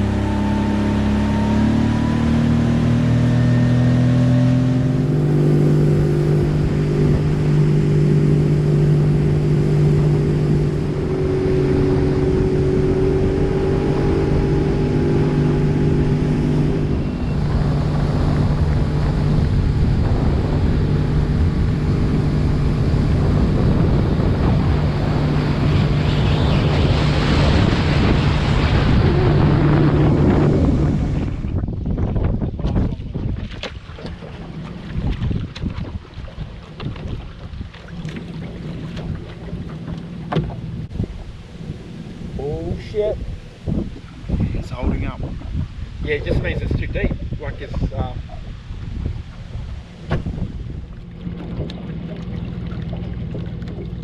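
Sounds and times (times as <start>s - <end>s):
boat motor running: 0.0s - 54.0s
water and wind rushing: 0.0s - 54.0s.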